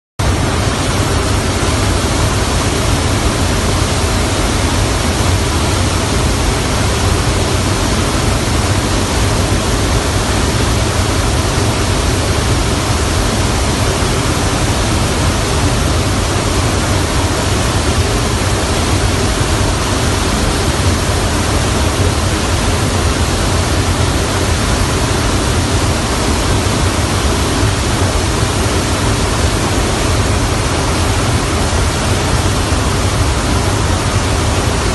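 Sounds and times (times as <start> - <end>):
jet engine drone in cabin: 0.2 - 34.9
rushing airflow: 0.2 - 34.9.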